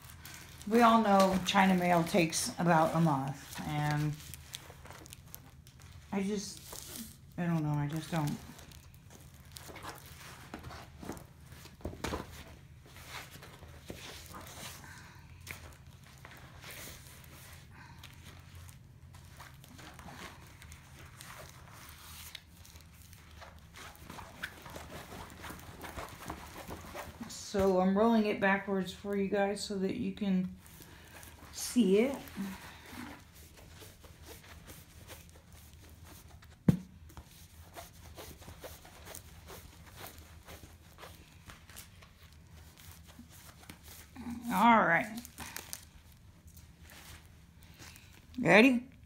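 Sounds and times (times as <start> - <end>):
canvas rustling and crinkling: 0.0 - 48.8
low steady hum: 0.0 - 49.0.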